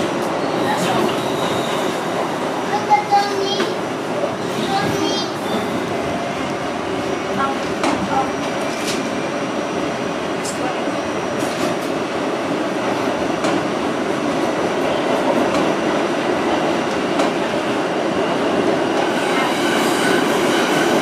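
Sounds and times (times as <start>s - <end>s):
subway wheels rumbling on track: 0.0s - 21.0s.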